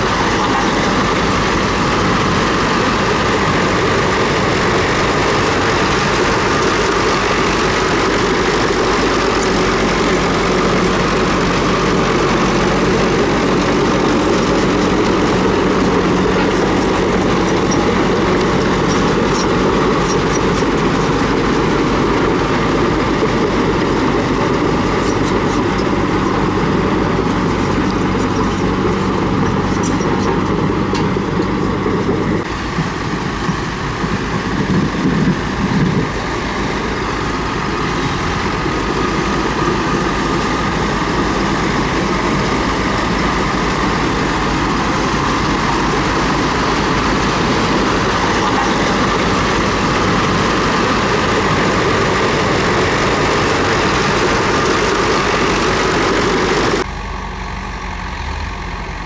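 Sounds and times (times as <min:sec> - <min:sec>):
sharp clicks and clanks: 0:00.0 - 0:56.9
bulldozer diesel engine running: 0:00.0 - 0:59.0.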